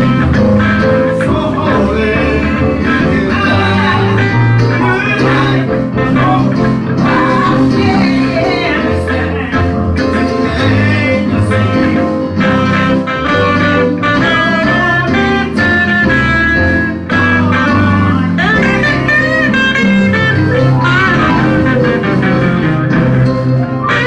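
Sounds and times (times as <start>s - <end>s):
bass line: 0.0s - 24.0s
bluesy electric guitar lead: 0.0s - 24.0s.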